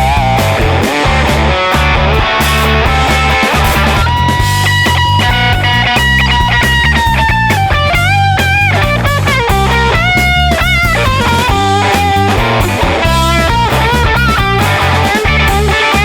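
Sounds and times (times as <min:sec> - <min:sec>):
rock music with electric guitar: 0:00.0 - 0:16.0.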